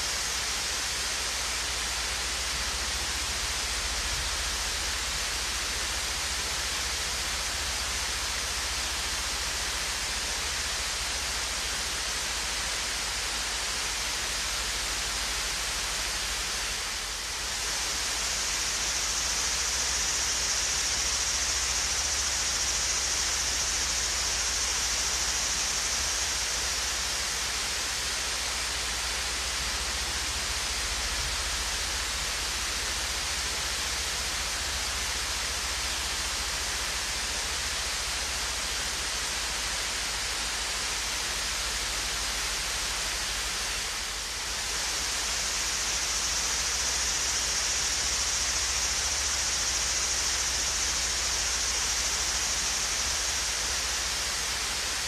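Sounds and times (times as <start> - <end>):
waterfall pouring and splashing: 0.0 - 55.0.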